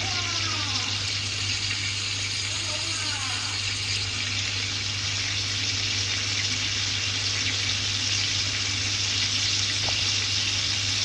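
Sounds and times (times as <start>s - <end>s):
chicken frying in bubbling oil: 0.0s - 11.0s.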